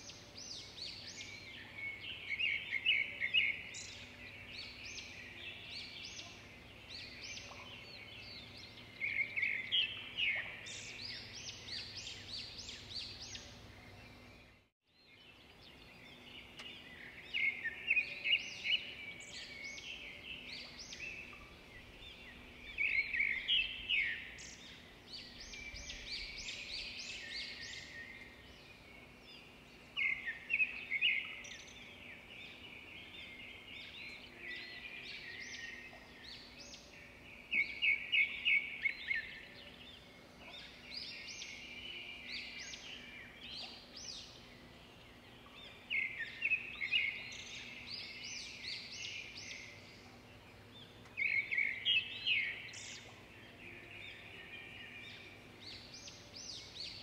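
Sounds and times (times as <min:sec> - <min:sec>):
bird song bursts: 0:00.0 - 0:57.0.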